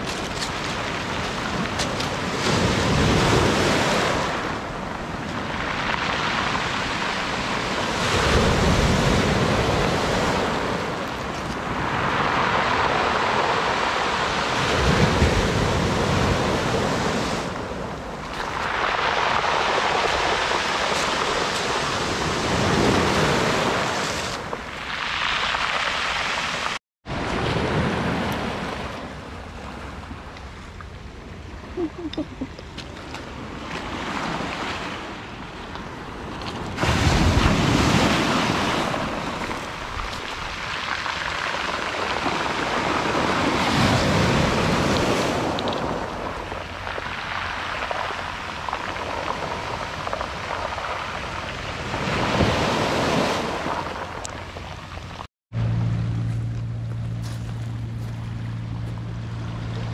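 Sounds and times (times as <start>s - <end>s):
sea waves breaking on shore: 0.0s - 55.3s.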